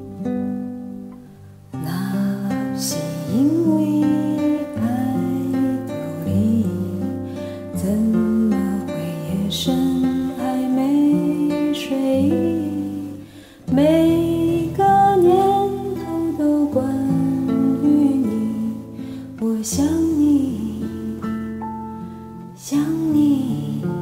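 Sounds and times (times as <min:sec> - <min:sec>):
acoustic guitar: 0:00.0 - 0:24.0
person singing a slow ballad: 0:01.6 - 0:24.0.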